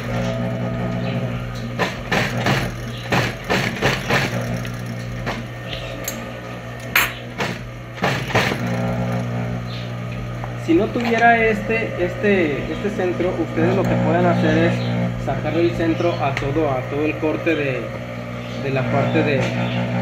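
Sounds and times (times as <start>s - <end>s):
sewing machine motor humming: 0.0s - 20.0s.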